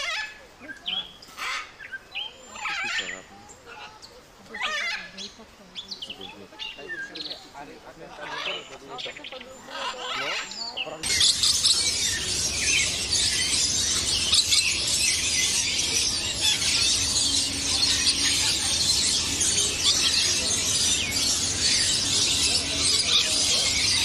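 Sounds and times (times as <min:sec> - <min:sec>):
parrots screeching and chattering: 0:00.0 - 0:05.3, 0:08.2 - 0:24.0.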